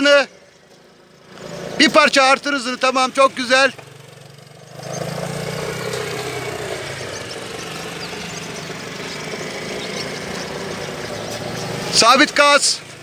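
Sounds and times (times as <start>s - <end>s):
scooter engine running: 0.3s - 13.0s.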